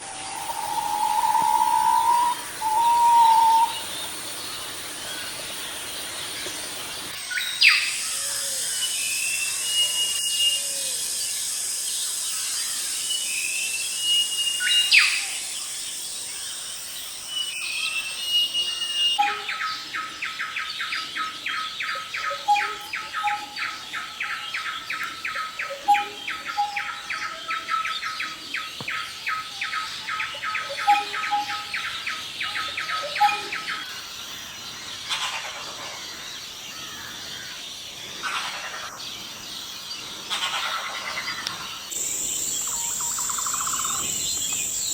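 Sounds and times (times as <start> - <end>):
songbirds chirping: 0.0 - 10.3, 10.9 - 44.9
steady high-pitched hiss: 0.0 - 44.9.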